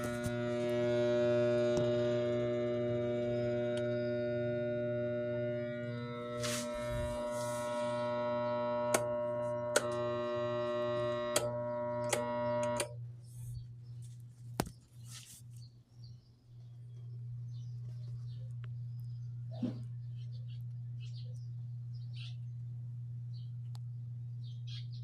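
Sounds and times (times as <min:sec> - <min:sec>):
electric fan ringing hum: 0:00.0 - 0:25.0.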